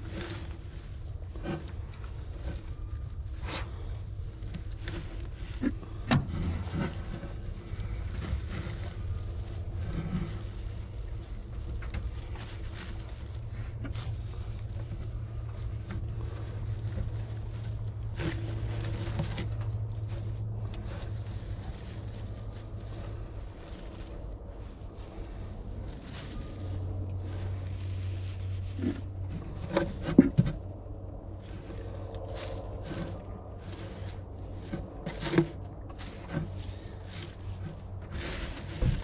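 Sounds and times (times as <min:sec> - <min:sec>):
hands rustling straw: 0:00.0 - 0:39.0
steady low rumble: 0:00.0 - 0:39.0.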